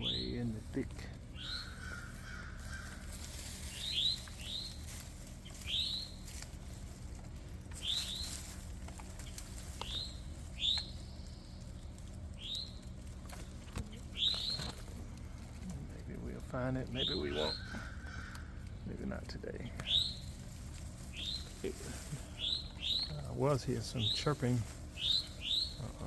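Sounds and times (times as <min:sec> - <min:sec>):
bird chip calls: 0:00.0 - 0:06.8, 0:07.7 - 0:15.4, 0:16.5 - 0:26.0.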